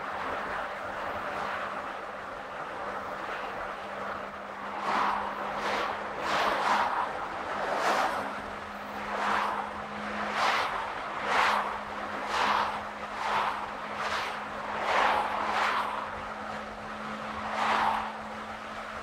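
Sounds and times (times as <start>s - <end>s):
car road and engine hum: 0.0s - 19.0s.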